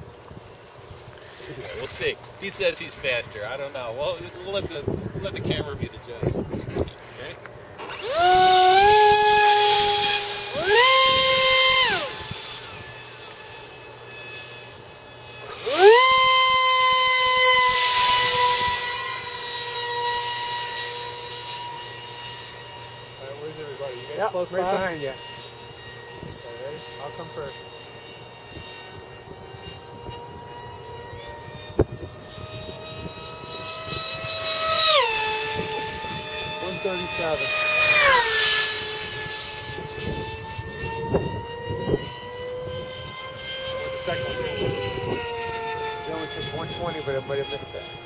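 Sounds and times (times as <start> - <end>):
electric motor whining: 0.0 - 48.0
faint high whine of distant plane: 0.0 - 48.0.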